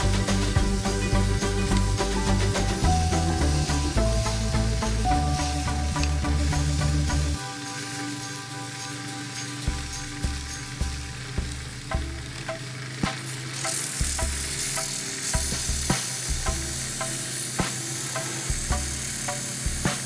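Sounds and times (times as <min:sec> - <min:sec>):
background music with steady beat: 0:00.0 - 0:20.0
sandpaper hissing on spinning wood: 0:00.0 - 0:20.0.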